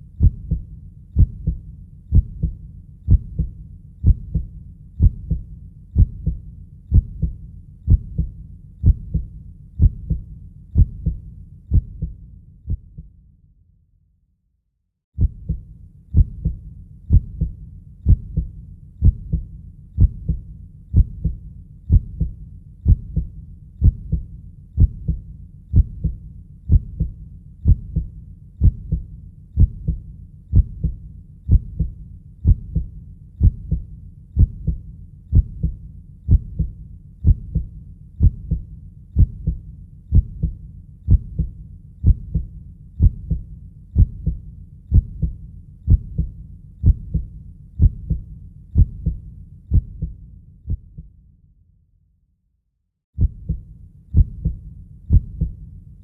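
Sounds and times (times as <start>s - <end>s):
heartbeat thuds: 0.2s - 13.1s, 15.2s - 51.0s, 53.2s - 55.6s.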